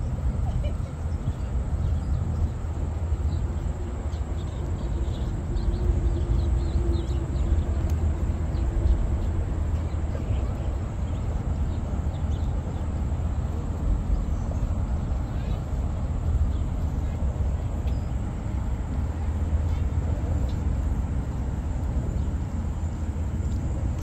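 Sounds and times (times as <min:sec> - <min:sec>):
faint low hum: 0:00.0 - 0:24.0
steady low rumble: 0:00.0 - 0:24.0.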